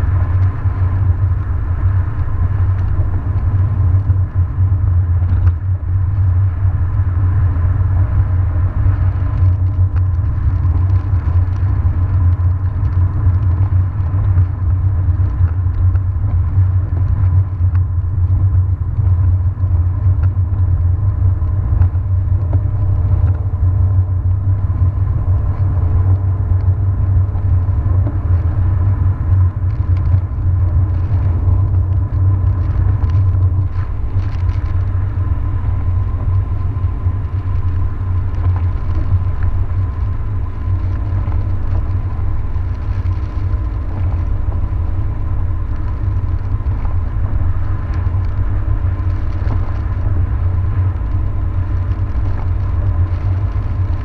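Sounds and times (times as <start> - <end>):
car engine and tyres rumbling: 0.0 - 54.0
faint steady whine: 0.0 - 54.0.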